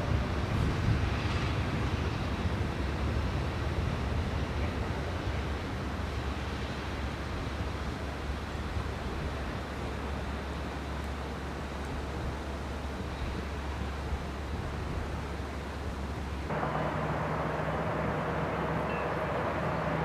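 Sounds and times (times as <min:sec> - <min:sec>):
electric locomotive rumbling: 0:00.0 - 0:20.0.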